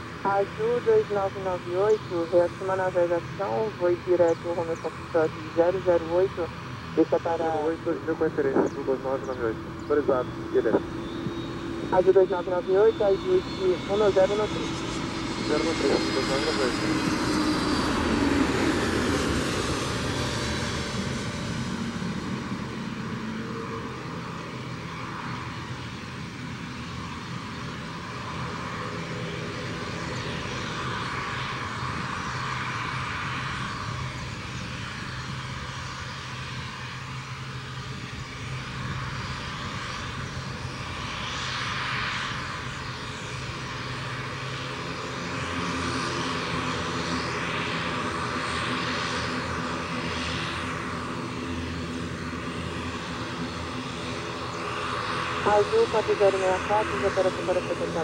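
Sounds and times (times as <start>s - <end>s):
jet engines whining and rumbling: 0.0s - 58.0s.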